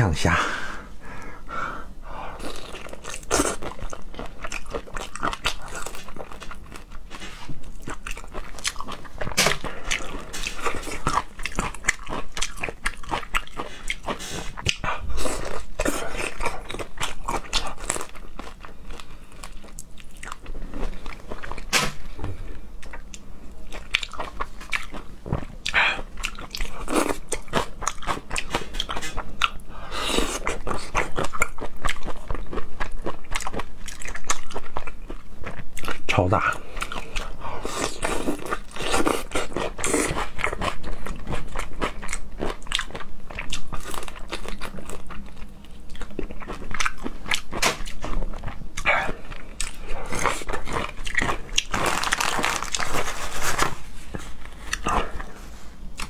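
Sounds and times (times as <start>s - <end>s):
chewing and crunching shrimp: 2.4s - 56.0s.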